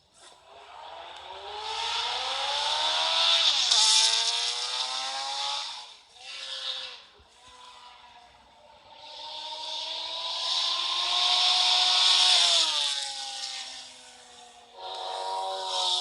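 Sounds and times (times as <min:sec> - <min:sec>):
engine revving: 0:00.2 - 0:16.0.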